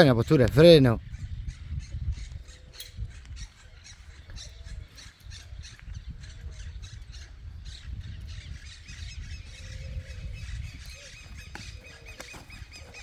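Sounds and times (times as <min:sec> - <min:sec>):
birds calling and chirping: 0:00.0 - 0:13.0
wind rumble on microphone: 0:00.0 - 0:13.0.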